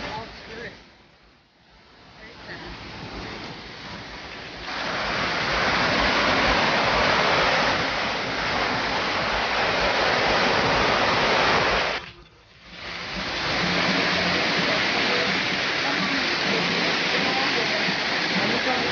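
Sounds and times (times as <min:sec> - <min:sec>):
waterfall rushing: 0:00.0 - 0:00.8, 0:01.8 - 0:18.9.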